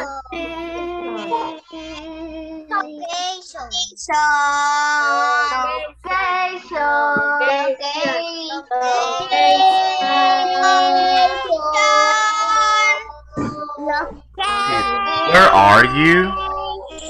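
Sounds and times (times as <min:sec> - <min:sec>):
child singing: 0:00.0 - 0:17.0.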